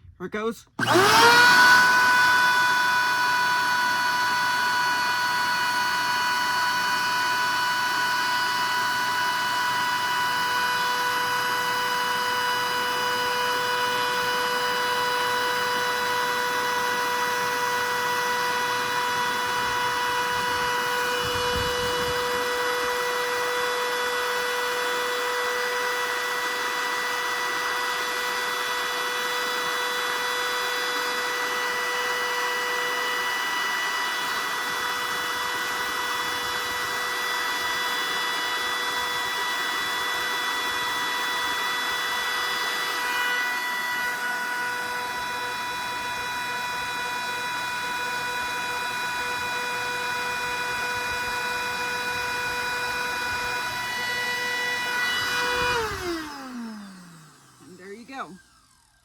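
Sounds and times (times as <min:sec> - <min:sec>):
vacuum motor whine: 0:00.8 - 0:59.0.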